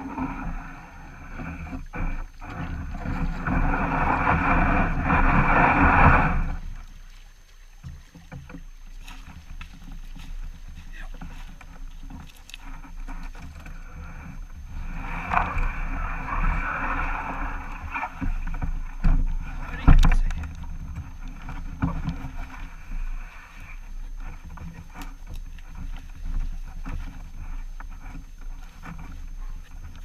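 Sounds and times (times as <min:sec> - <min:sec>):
paddling water sounds: 0:00.0 - 0:30.0.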